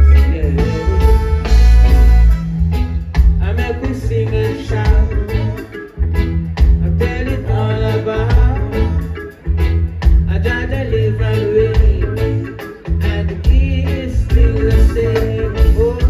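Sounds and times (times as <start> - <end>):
heavy bass line: 0.0 - 16.0
live reggae band playing: 0.0 - 16.0.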